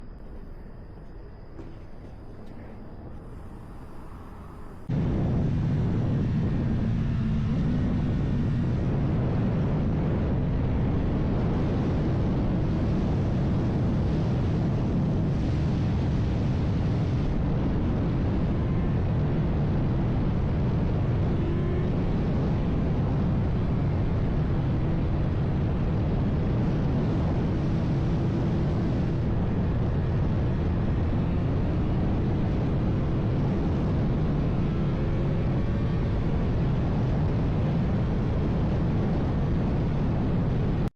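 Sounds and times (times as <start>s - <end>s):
low engine drone: 0.0s - 40.9s
wind and road noise: 0.0s - 40.9s.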